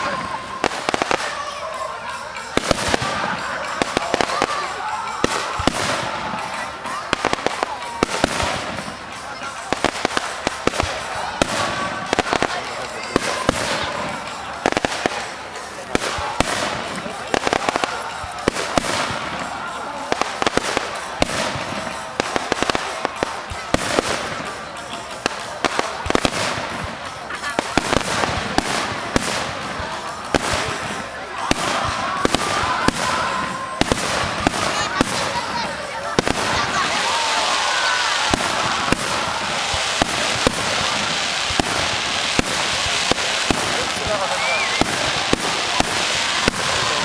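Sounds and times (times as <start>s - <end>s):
fireworks bangs: 0.0s - 47.0s
fireworks crackling: 0.0s - 47.0s.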